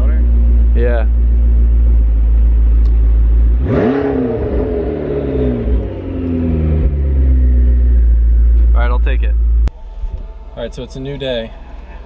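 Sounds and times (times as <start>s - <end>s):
car engine idling: 0.0s - 12.0s
car engine revving: 0.0s - 12.0s.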